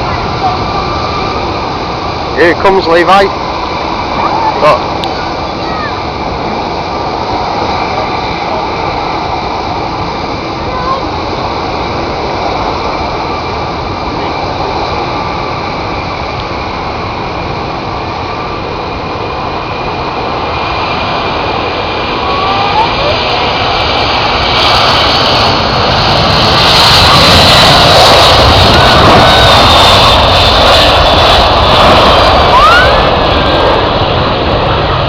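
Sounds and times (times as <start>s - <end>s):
jet engines roaring at takeoff: 0.0s - 35.0s.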